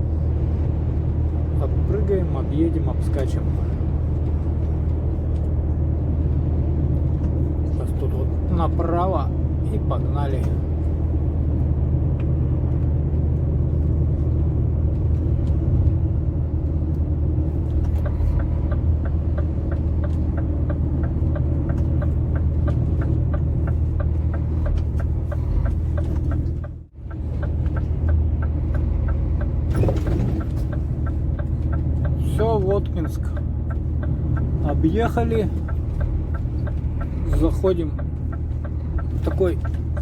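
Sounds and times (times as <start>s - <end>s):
truck diesel engine drone: 0.0s - 40.0s
turn signal ticking: 0.0s - 40.0s.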